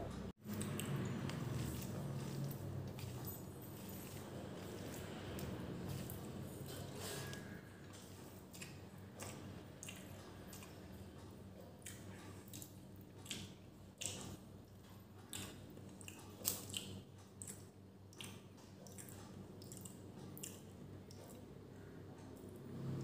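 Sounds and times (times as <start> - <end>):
chewing: 0.4 - 23.0.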